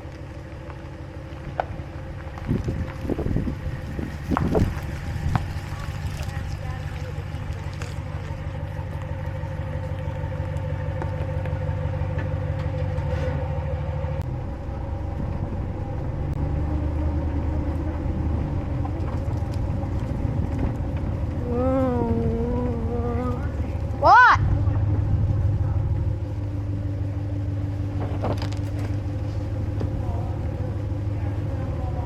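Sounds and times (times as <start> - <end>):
engine and road rumble: 0.0 - 32.0.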